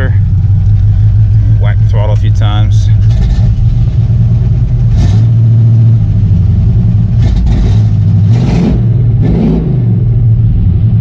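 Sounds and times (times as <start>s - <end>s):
truck engine idling and revving: 0.0s - 11.0s.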